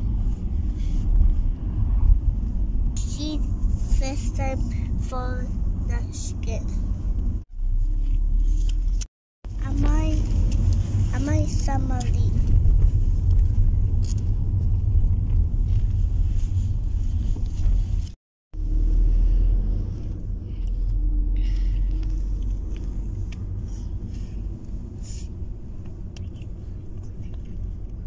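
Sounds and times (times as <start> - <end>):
car cabin road and engine rumble: 0.0 - 28.0.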